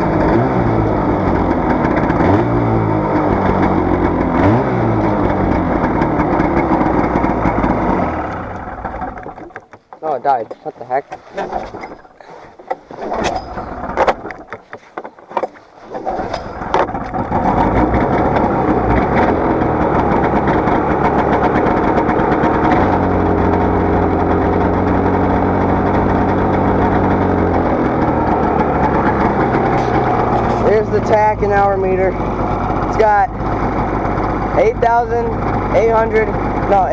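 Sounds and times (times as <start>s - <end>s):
engine starter clicks and knocks: 0.0s - 36.9s
snowmobile engine idling: 0.0s - 36.9s.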